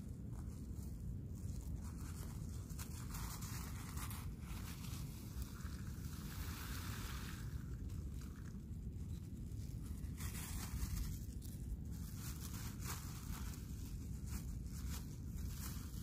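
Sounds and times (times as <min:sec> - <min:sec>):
plastic bag crinkling: 0:01.6 - 0:16.0.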